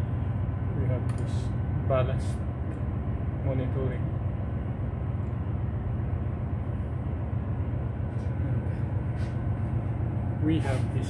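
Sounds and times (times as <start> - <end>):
low machinery drone: 0.0 - 11.0.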